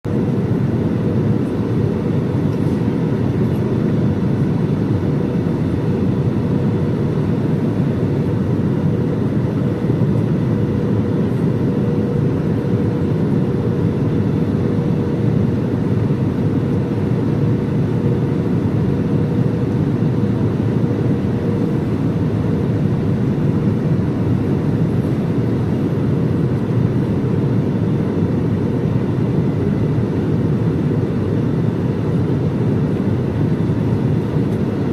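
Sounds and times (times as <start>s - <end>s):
airplane cabin roar: 0.0s - 34.9s.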